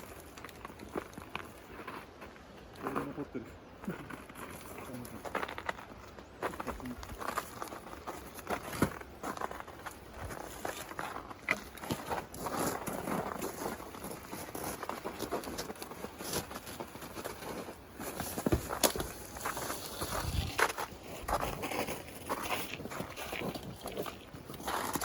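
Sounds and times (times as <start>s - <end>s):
footsteps crunching through snow: 3.9s - 25.0s.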